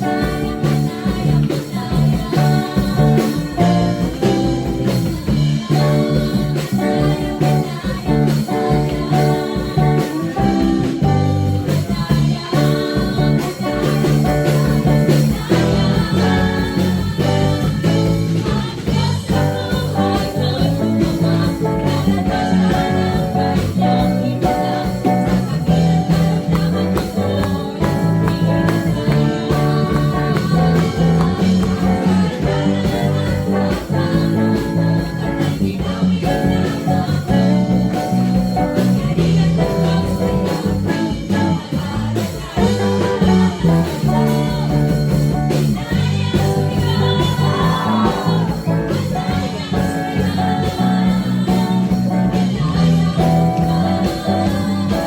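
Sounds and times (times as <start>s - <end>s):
person singing: 0.0s - 55.0s
worship song with guitar: 0.0s - 55.0s.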